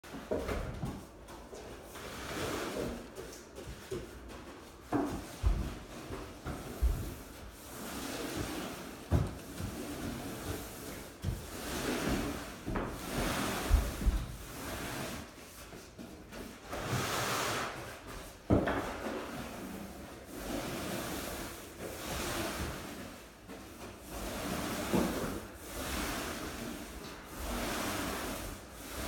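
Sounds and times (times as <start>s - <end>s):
roller swishing on floorboards: 0.1s - 29.0s.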